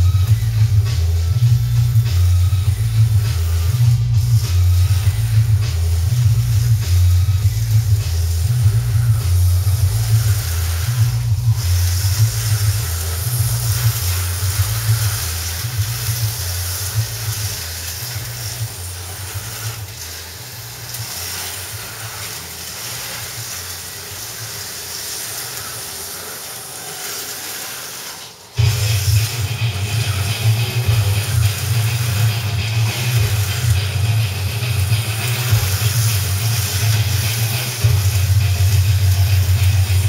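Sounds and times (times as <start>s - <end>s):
background music with bass beat: 0.0s - 25.0s, 28.6s - 40.0s
slot car motors whirring: 0.0s - 40.0s.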